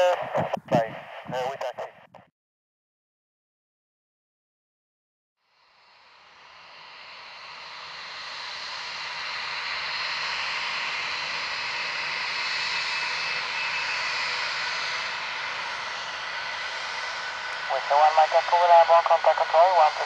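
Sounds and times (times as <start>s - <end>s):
jet engine whine: 0.0s - 2.0s, 5.5s - 20.0s.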